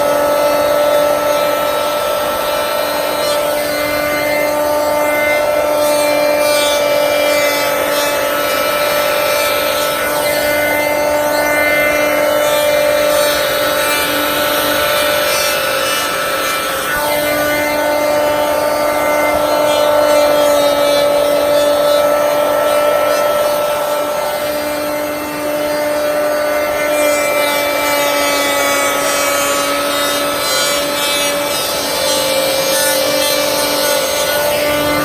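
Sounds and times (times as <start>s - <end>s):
electric hand planer shaving wood: 0.0s - 35.0s.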